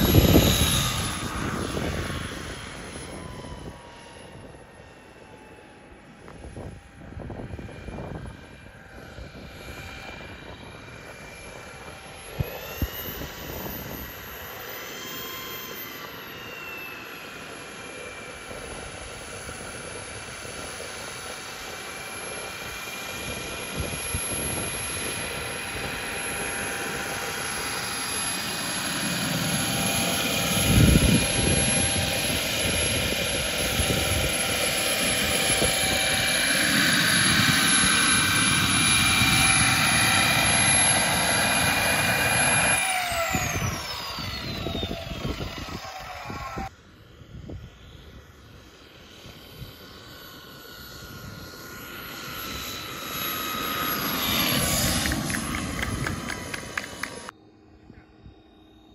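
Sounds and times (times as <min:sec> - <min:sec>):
model plane motor whining: 0:00.0 - 0:58.9.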